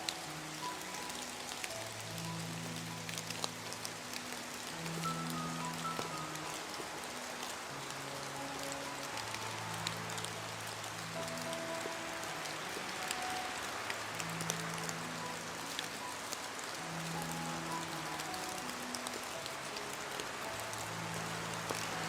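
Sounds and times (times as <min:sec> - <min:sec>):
heavy rain falling: 0:00.0 - 0:22.0
soft background music: 0:00.0 - 0:22.0.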